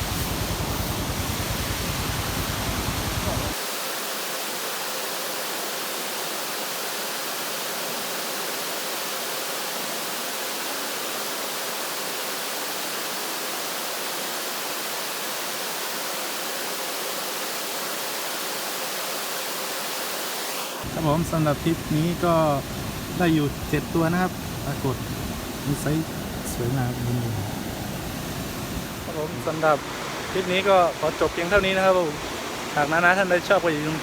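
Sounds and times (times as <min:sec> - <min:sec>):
rushing hiss of water: 0:00.0 - 0:34.0.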